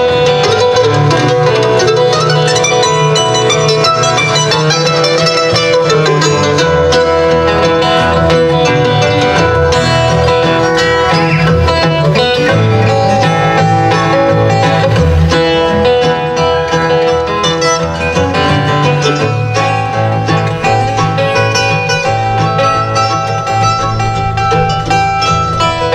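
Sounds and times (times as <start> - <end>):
acoustic guitars picking: 0.0 - 25.9
mandolin picking: 0.0 - 25.9.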